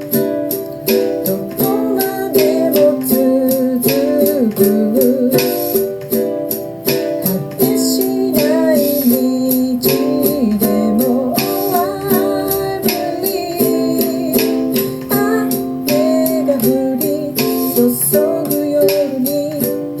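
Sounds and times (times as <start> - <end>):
ukulele strumming chords: 0.0 - 20.0
woman singing: 1.1 - 6.0, 7.2 - 20.0.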